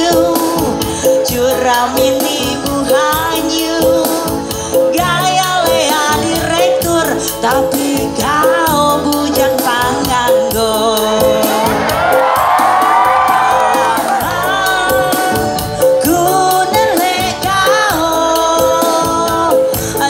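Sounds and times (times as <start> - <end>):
woman singing: 0.0 - 12.2, 13.4 - 20.0
live band music: 0.0 - 20.0.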